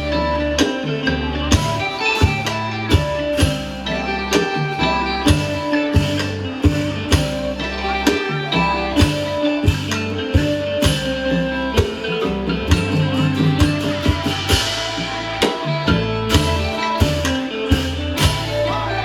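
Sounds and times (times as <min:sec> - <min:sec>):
plucked string melody: 0:00.0 - 0:19.0
steady drum beat: 0:00.0 - 0:19.0.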